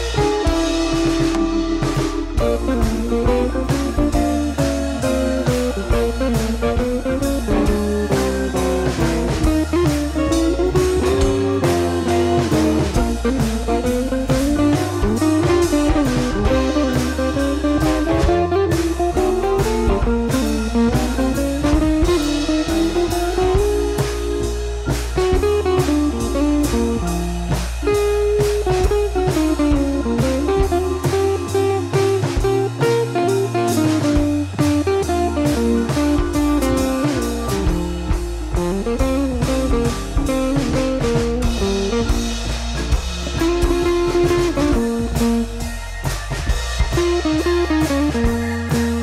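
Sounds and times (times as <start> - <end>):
blues guitar tune: 0.0 - 49.0
drum kit beat: 0.0 - 49.0.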